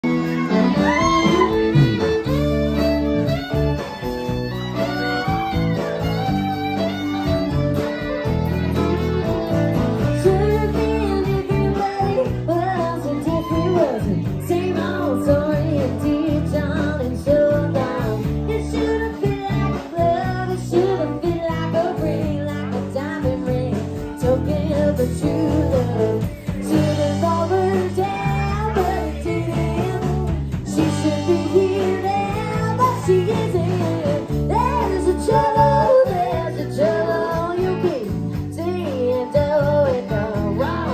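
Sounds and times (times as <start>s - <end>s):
acoustic guitar: 0.0s - 40.9s
steady bass line: 0.0s - 40.9s
woman singing lead: 0.0s - 40.9s.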